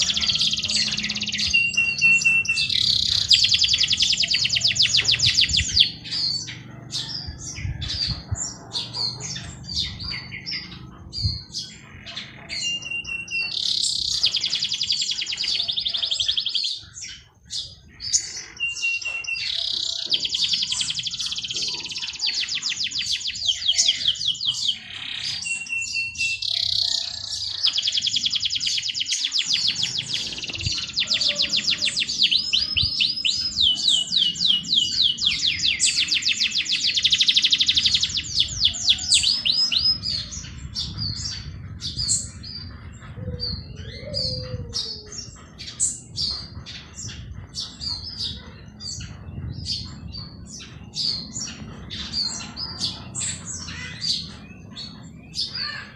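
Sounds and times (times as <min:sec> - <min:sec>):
small songbirds trilling: 0:00.0 - 0:55.9.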